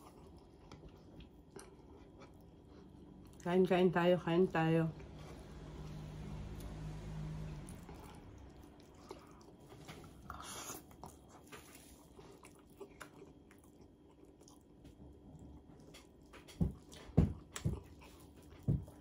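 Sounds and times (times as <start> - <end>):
close chewing and mouth sounds: 0.0 - 19.0.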